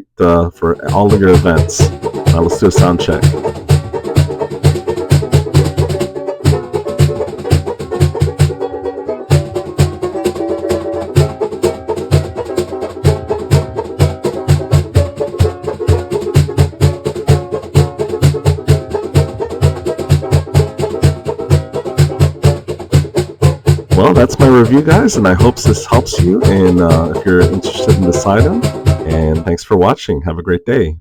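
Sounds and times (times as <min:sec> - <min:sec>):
plucked-string tune over a beat: 0:00.0 - 0:29.6.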